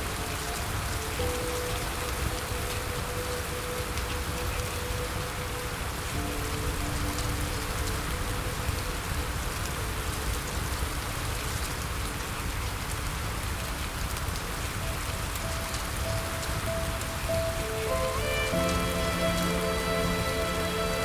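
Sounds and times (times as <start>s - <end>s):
soft held music notes: 0.0s - 13.4s, 14.1s - 21.0s
rain falling: 0.0s - 21.0s.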